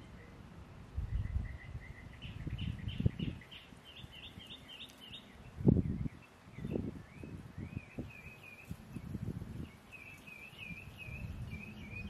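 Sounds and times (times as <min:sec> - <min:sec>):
songbird chirping: 0:00.0 - 0:12.0
wind buffeting microphone: 0:00.0 - 0:12.0.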